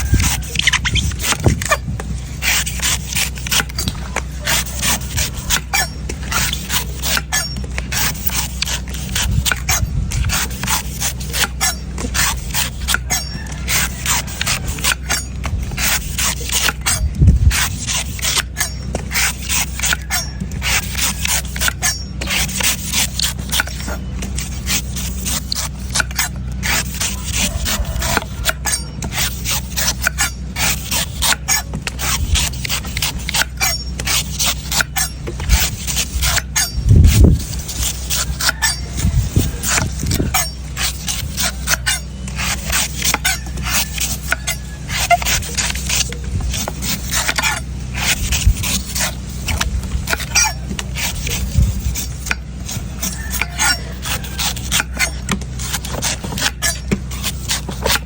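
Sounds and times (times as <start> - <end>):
knife scraping coconut: 0.0 - 58.0
steady low hum: 0.0 - 58.0.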